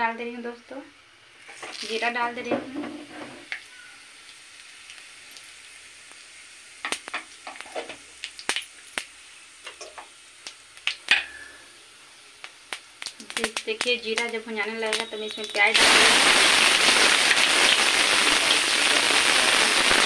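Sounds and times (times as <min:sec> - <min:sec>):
seeds sizzling in hot oil: 0:00.0 - 0:20.0.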